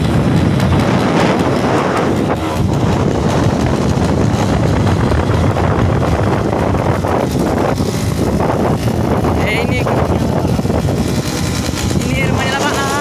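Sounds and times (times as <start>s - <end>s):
vehicle running noise: 0.0s - 13.0s
wind buffeting microphone: 0.0s - 13.0s.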